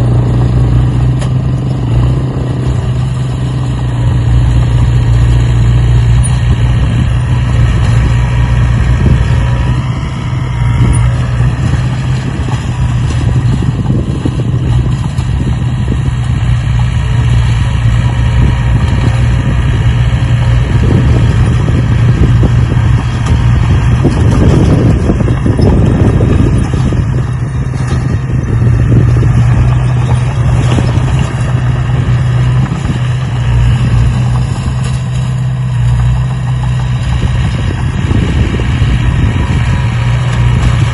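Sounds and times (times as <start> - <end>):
motor humming: 4.0 - 40.9.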